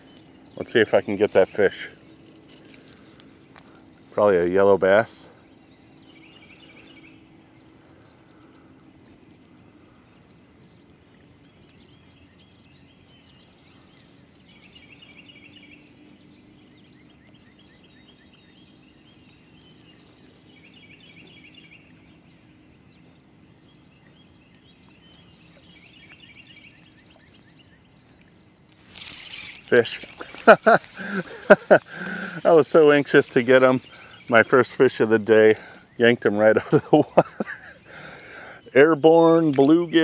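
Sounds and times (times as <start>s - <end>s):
bird singing trilled phrases: 0.0s - 40.0s
faint low hum: 0.0s - 40.0s.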